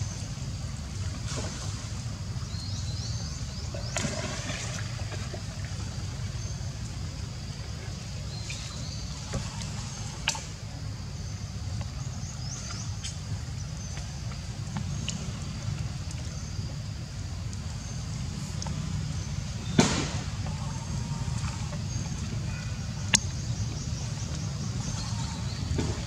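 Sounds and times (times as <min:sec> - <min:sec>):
steady low rumble: 0:00.0 - 0:26.0
water splashing and trickling: 0:00.0 - 0:26.0.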